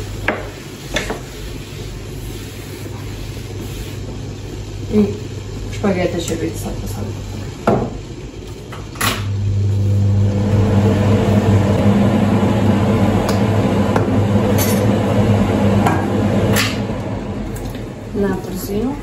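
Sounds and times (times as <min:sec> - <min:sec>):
electrical appliance humming: 0:00.0 - 0:19.0.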